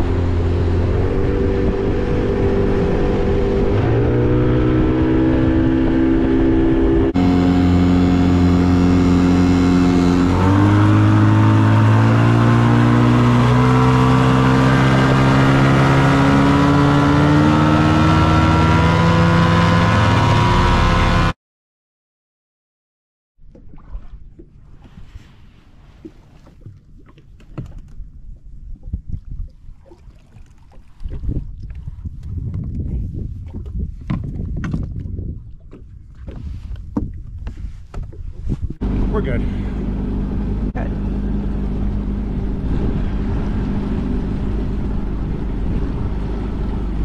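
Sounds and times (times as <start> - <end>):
water spraying along hull: 0.0 - 17.1, 23.4 - 47.0
outboard motor accelerating: 0.0 - 21.4, 23.4 - 47.0.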